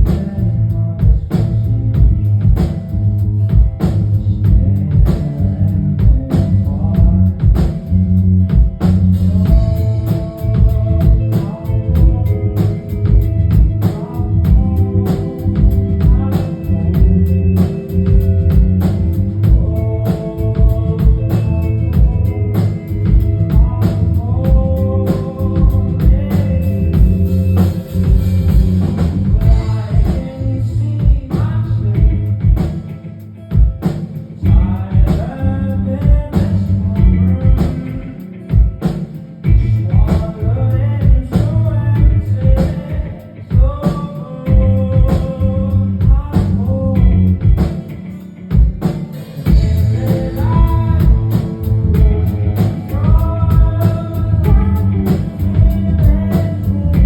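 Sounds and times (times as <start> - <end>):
live rock band playing: 0.0 - 57.0
man singing lead vocal: 0.0 - 57.0.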